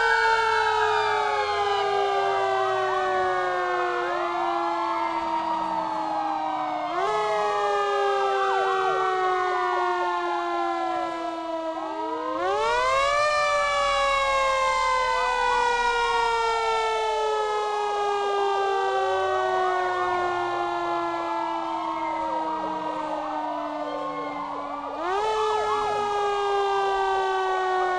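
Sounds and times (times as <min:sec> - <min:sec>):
police sirens wailing: 0:00.0 - 0:27.9.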